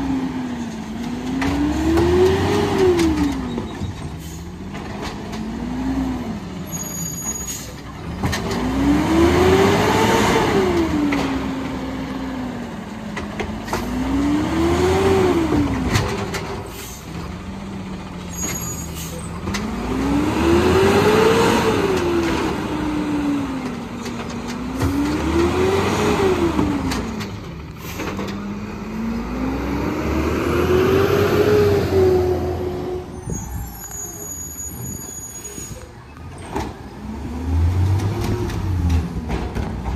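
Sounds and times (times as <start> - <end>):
garbage truck engine revving: 0.0 - 3.6, 8.0 - 35.0, 36.5 - 39.9.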